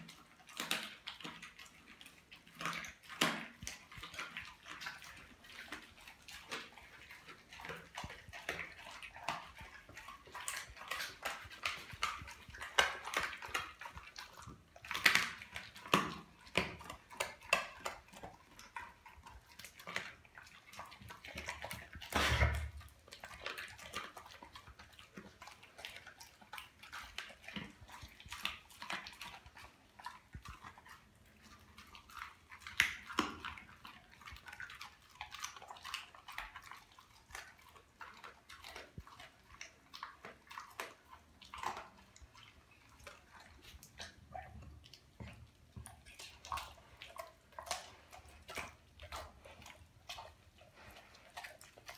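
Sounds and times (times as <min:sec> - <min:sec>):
dog chewing raw fish: 0:00.0 - 0:51.9
wet smacking: 0:00.0 - 0:51.9.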